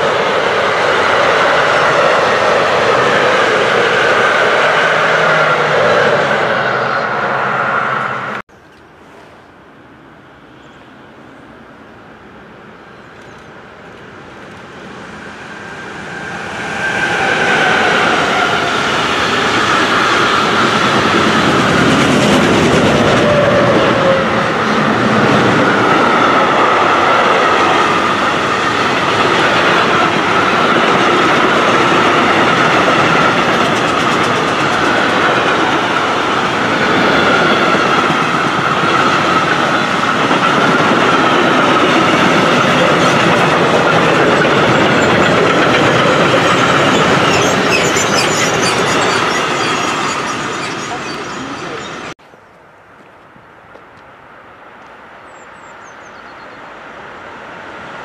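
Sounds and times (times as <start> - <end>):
freight train rumbling past: 0.0 - 8.4, 9.0 - 52.2, 55.3 - 58.0.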